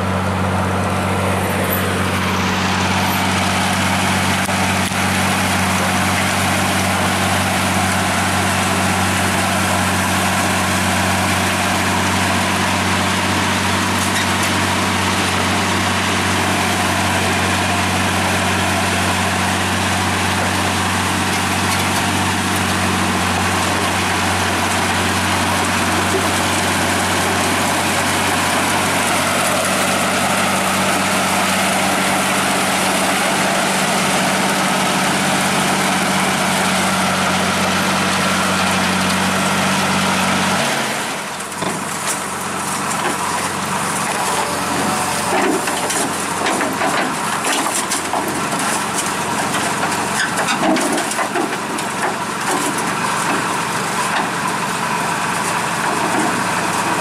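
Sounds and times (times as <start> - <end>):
diesel engine running: 0.0 - 57.0
tracks crunching over gravel: 0.0 - 57.0.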